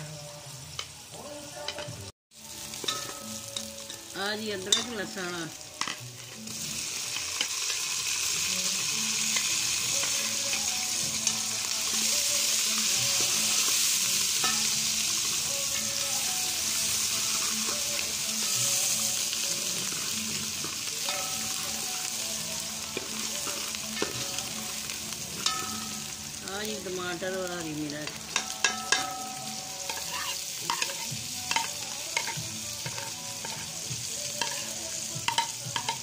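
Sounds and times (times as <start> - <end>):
onions sizzling in oil: 0.0 - 36.0.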